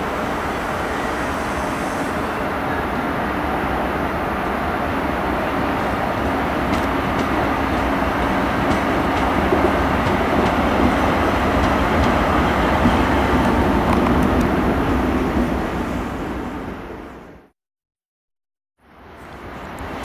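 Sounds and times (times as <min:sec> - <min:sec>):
train wheels rumbling on rail: 0:00.0 - 0:17.3.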